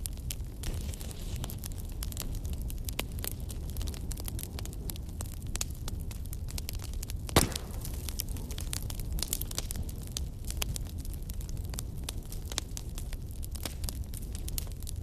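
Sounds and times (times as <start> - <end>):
snowstorm wind rumble: 0.0 - 15.0
wood fire crackling: 0.0 - 15.0.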